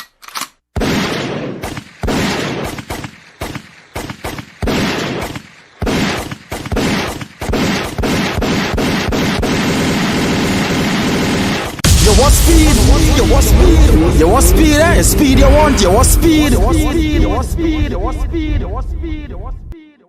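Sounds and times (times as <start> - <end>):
loud booming gunshots: 0.8 - 17.2.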